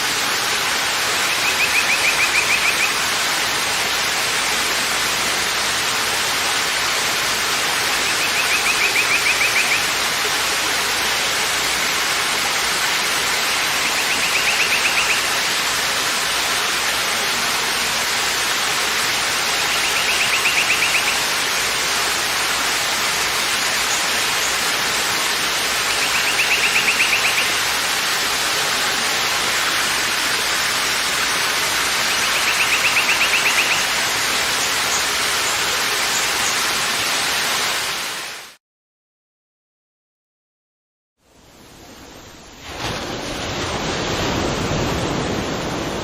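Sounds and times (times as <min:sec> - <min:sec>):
waterfall rushing: 0:00.0 - 0:38.6.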